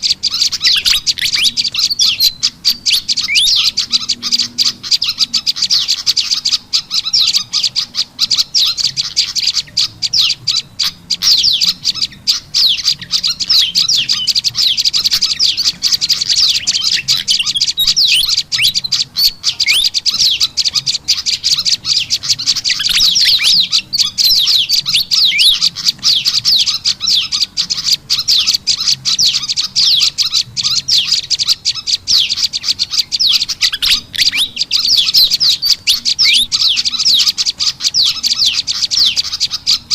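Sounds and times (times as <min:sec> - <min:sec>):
noisy fantail calls: 0:00.0 - 0:39.9
small songbirds chirping: 0:00.0 - 0:39.9.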